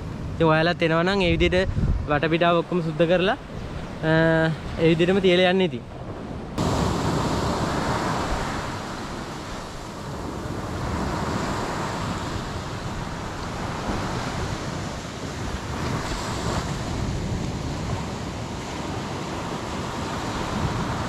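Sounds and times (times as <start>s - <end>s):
wind buffeting microphone: 0.0s - 21.0s
sea waves on shore: 1.7s - 21.0s.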